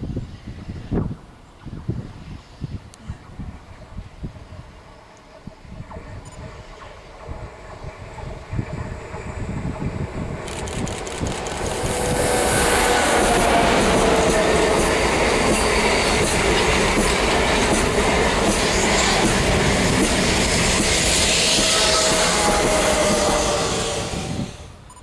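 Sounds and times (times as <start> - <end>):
high-speed train rushing past: 3.4 - 25.0.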